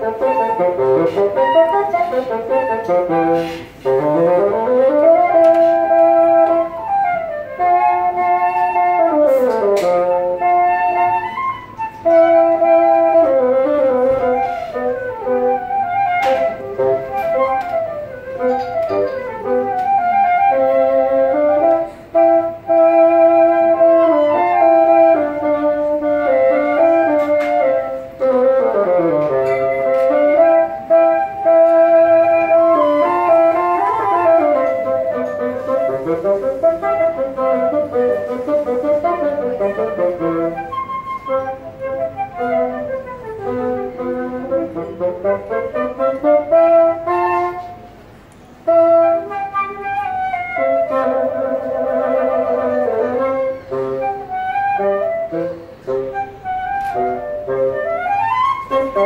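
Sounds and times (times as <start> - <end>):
bassoon playing scale runs: 0.0 - 48.0
flute melody: 0.0 - 59.0.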